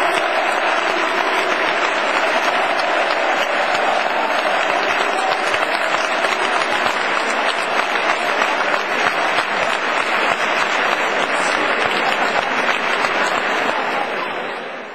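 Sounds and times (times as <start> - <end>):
crowd applauding: 0.0 - 14.9.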